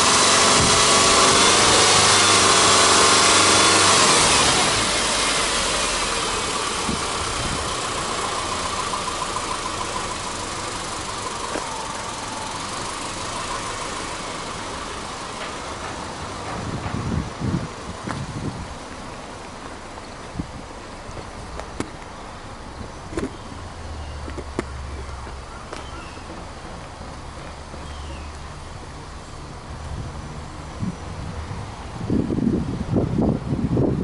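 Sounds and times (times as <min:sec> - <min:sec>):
car engine revving and idling: 0:00.0 - 0:34.0.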